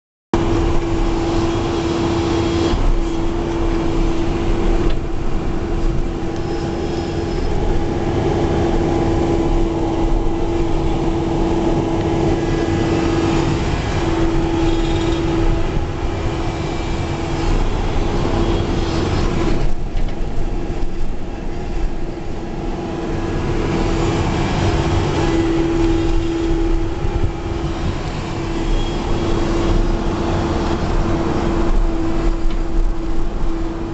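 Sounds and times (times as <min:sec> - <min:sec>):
backhoe diesel engine running: 0:00.4 - 0:33.9.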